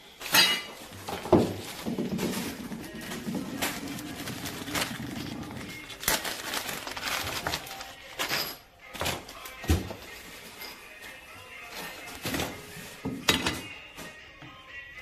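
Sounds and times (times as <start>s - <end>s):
plastic bag rustling: 0.1s - 14.2s.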